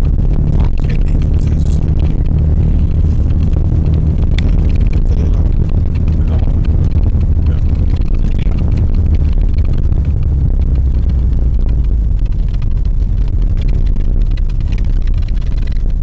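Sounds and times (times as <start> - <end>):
car engine drone inside cabin: 0.0 - 16.0
tyre and road noise on snow: 0.0 - 16.0.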